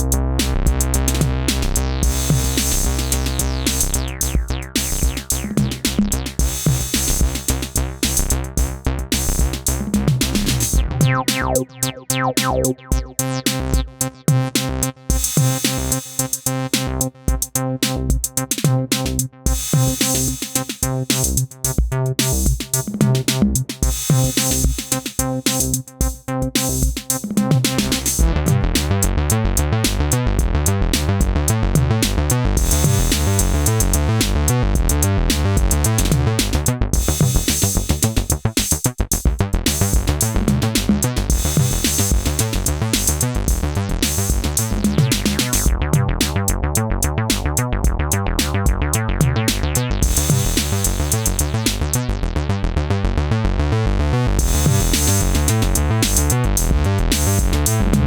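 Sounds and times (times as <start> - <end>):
drum machine beat: 0.0 - 52.0, 54.4 - 58.0
synthesizer bass line: 0.0 - 58.0.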